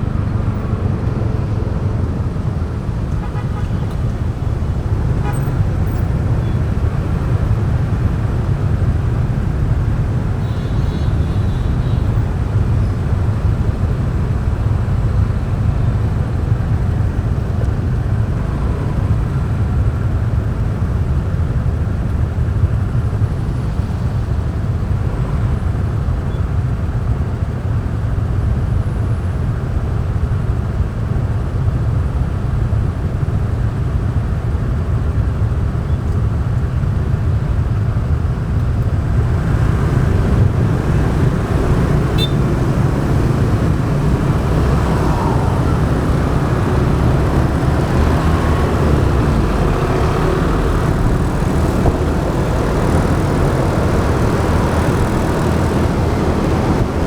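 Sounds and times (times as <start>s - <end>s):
motorbike engine rumble: 0.0s - 27.8s, 34.0s - 57.0s
road noise: 0.0s - 57.0s.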